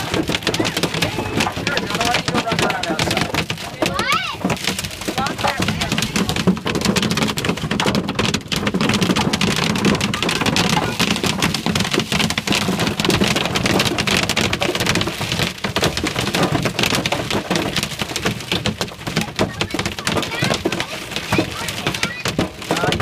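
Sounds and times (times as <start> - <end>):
rain and hail drumming on car: 0.0 - 23.0.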